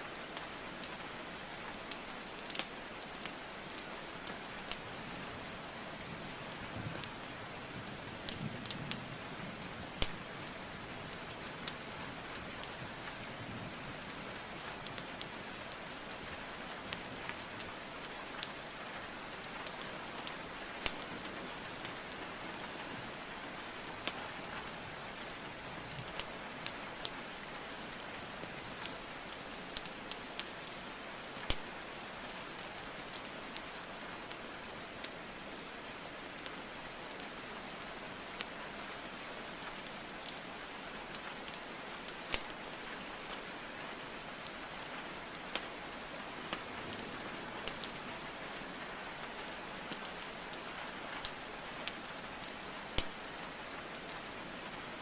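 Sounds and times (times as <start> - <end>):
logs crackling in fireplace: 1.6 - 4.9, 8.1 - 9.0, 9.6 - 22.7, 23.4 - 24.3, 24.9 - 34.4, 35.0 - 36.8, 37.4 - 40.5, 41.1 - 43.7, 44.3 - 48.3, 49.1 - 54.7.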